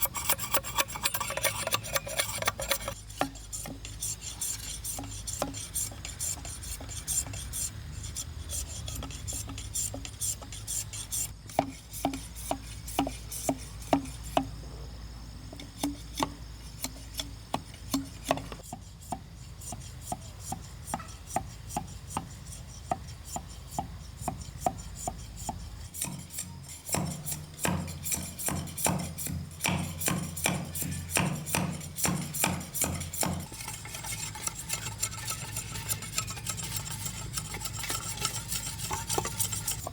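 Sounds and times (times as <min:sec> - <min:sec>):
hand tool scraping and tapping wood: 0:00.0 - 0:07.7, 0:08.5 - 0:14.6, 0:15.4 - 0:39.9.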